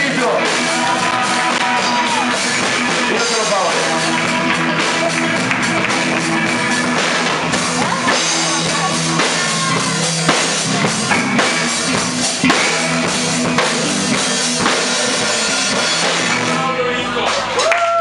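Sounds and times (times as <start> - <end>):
band music: 0.0 - 18.0
steady bass line: 0.0 - 18.0
bass drum and snare hits: 0.8 - 16.4.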